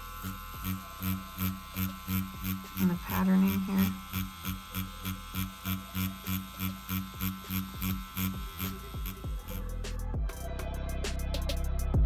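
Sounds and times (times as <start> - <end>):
tattoo machine buzzing: 0.0 - 9.9
background music: 0.0 - 12.0.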